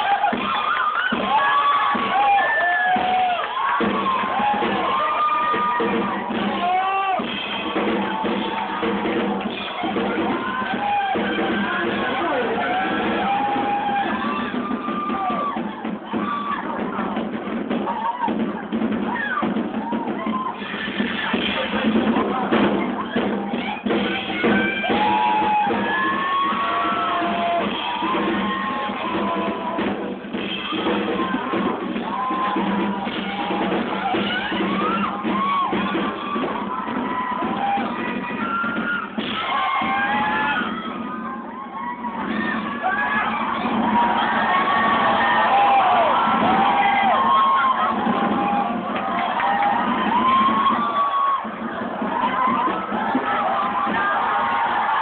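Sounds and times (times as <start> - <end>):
drum kit: 0.0 - 55.0.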